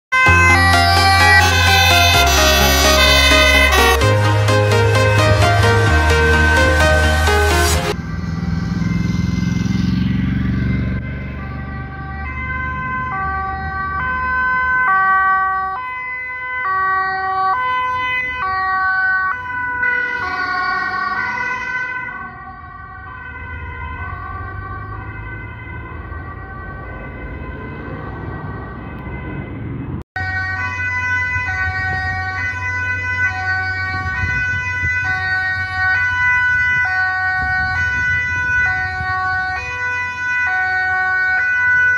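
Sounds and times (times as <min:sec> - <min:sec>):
ambulance two-tone siren: 0:00.1 - 0:41.9
road traffic noise: 0:00.1 - 0:41.9.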